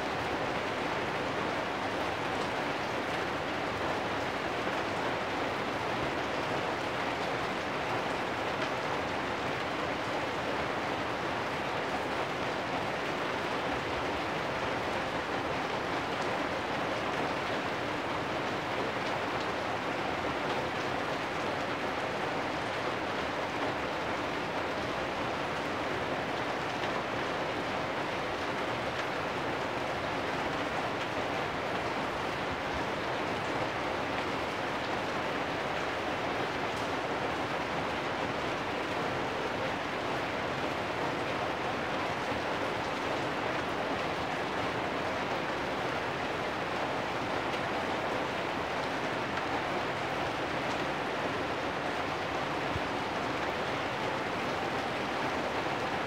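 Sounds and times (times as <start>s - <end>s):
rain on metal roofs: 0.0s - 56.0s.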